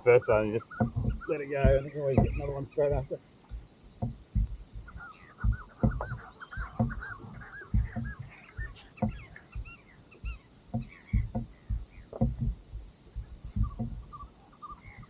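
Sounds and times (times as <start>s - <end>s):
dull low thumps: 0.0s - 15.0s
seabirds squawking: 0.2s - 3.2s, 4.2s - 12.5s, 13.1s - 15.0s.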